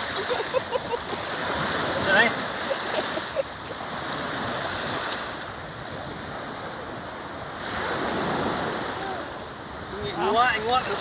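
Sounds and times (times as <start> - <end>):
sea waves washing onto beach: 0.0 - 11.0.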